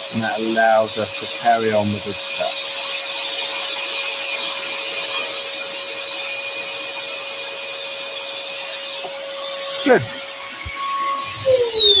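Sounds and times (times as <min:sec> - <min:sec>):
dust extractor running: 0:00.0 - 0:12.0
scroll saw cutting wood: 0:00.0 - 0:12.0.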